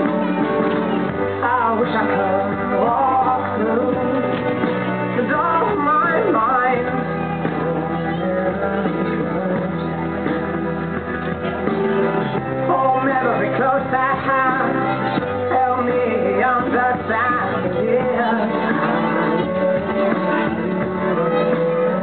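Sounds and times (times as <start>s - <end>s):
pop song with singing: 0.0s - 22.0s.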